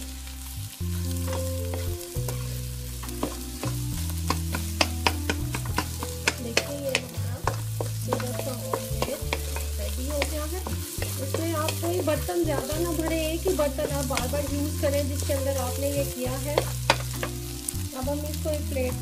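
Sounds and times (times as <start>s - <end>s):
egg sizzling in frying pan: 0.0s - 19.0s
spatula tapping and scraping pan: 1.3s - 17.4s.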